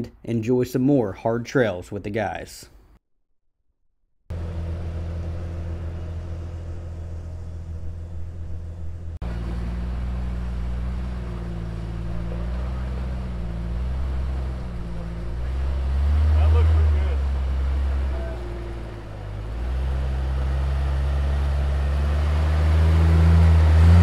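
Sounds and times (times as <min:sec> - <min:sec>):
engine running at low revs: 0:04.3 - 0:24.0
engine working at low speed: 0:04.3 - 0:24.0.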